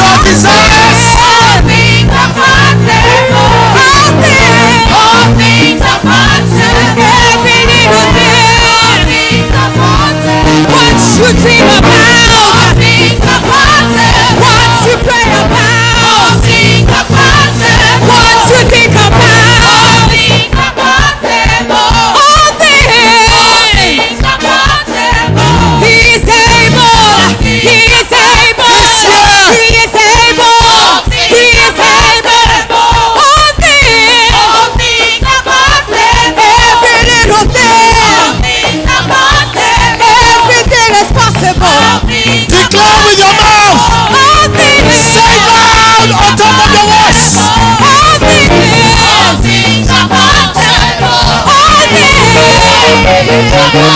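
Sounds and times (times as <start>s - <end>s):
choir and congregation singing: 0.0s - 53.9s
instrumental accompaniment: 0.0s - 53.9s.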